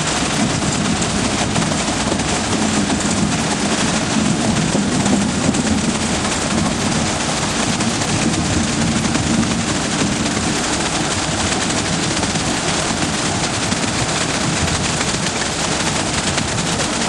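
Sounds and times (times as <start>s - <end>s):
heavy machinery rattling: 0.0s - 17.0s.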